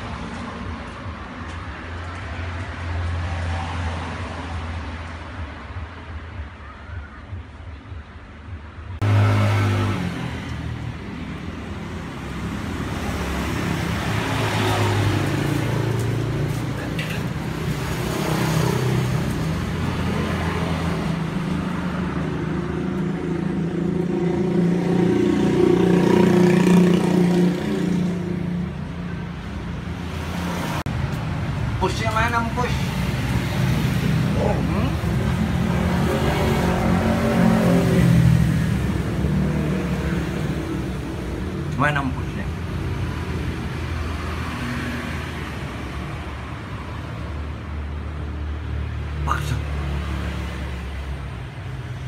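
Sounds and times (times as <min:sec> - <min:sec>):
vehicle engine humming: 0:07.8 - 0:52.0.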